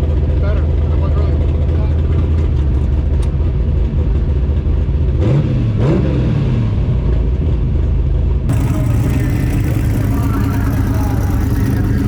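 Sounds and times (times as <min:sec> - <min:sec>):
race car engine rumbling and revving: 0:00.0 - 0:12.0.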